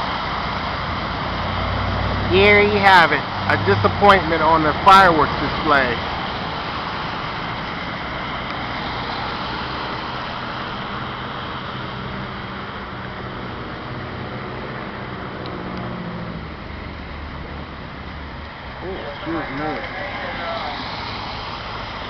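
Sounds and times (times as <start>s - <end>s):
low engine hum: 0.0s - 22.0s
vehicle road noise: 0.0s - 22.0s.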